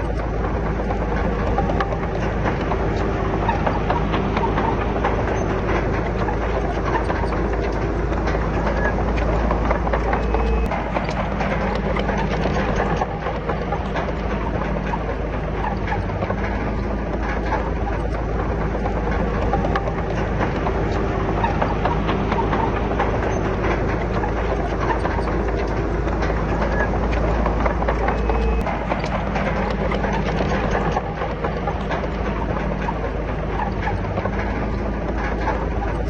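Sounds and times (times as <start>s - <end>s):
bulldozer diesel engine running: 0.0s - 36.0s
steel tracks clanking: 0.0s - 36.0s.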